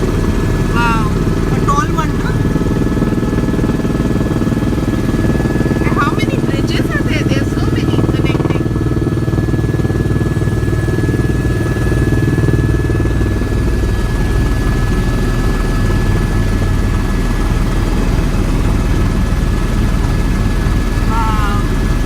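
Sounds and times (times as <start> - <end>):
helicopter rotor chop: 0.0 - 22.0
high engine whine: 0.0 - 22.0.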